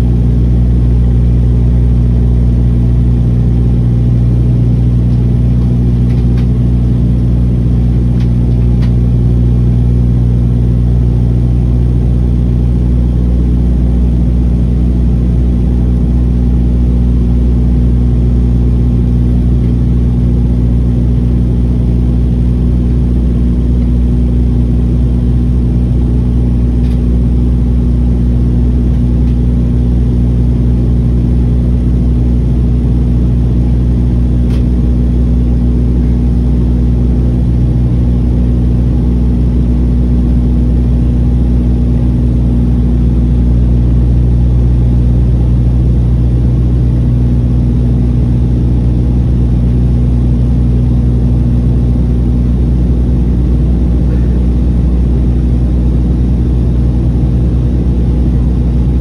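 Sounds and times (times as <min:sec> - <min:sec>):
propeller plane cabin drone: 0:00.0 - 0:59.0.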